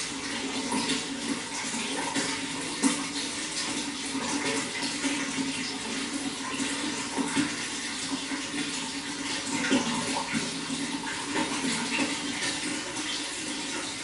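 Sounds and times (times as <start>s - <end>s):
running water splashing: 0.0s - 14.0s.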